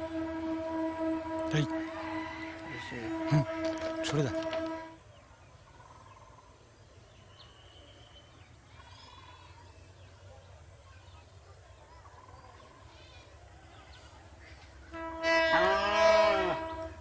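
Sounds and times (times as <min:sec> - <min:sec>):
birds trilling: 0:01.3 - 0:17.0.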